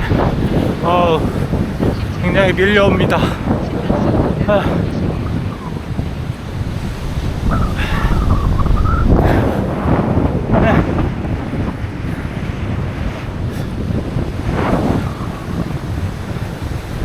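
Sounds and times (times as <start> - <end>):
surf breaking on shore: 0.0 - 17.0
wind buffeting microphone: 0.0 - 17.0.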